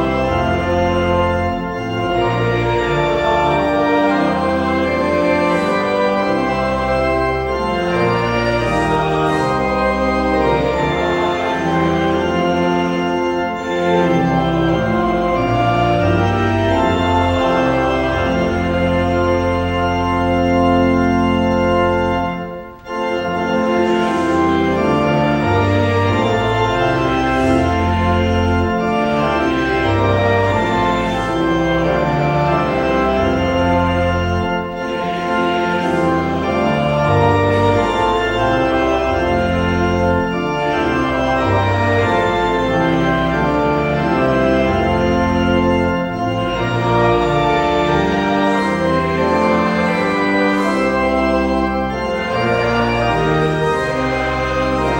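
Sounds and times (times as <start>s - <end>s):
church organ playing chords: 0.0s - 54.9s.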